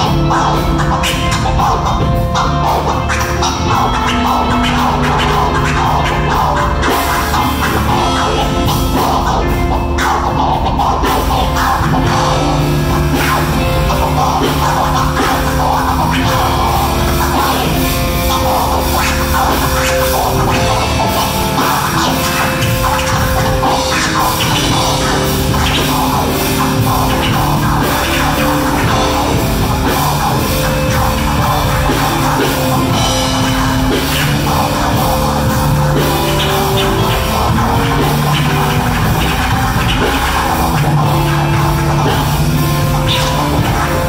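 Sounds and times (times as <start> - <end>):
drum kit beat: 0.0 - 44.0
electric guitar: 0.0 - 44.0
keyboard sustained notes: 0.0 - 44.0.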